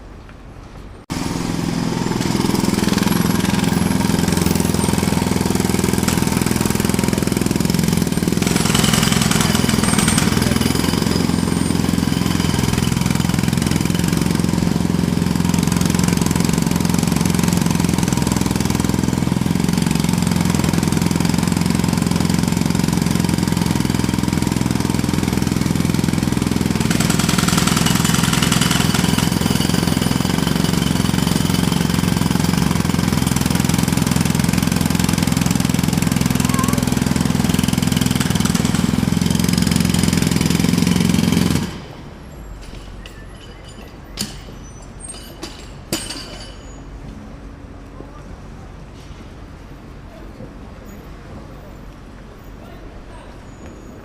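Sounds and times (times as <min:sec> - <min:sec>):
jackhammer hammering: 0:01.1 - 0:46.7.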